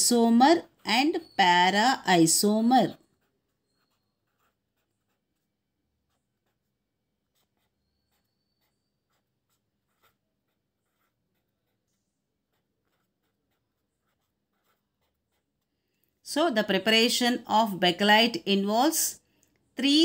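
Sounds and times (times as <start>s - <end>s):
marker pen scratching on paper: 0.0s - 17.4s.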